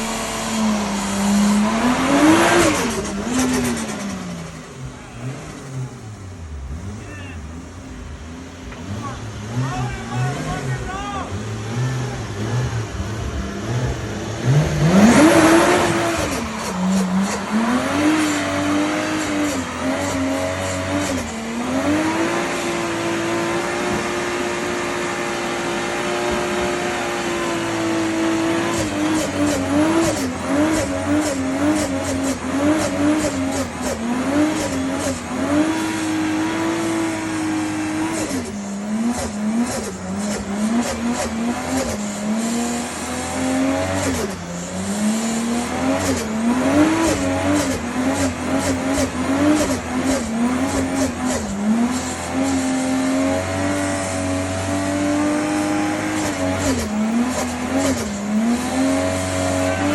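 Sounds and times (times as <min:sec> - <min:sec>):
car engine revving: 0:00.0 - 0:59.9
tires squealing: 0:06.7 - 0:59.9.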